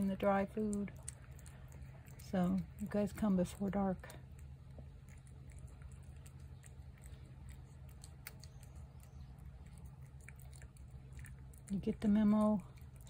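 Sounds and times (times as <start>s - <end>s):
cat chewing food: 0.0s - 13.0s
steady low hum: 0.0s - 13.0s.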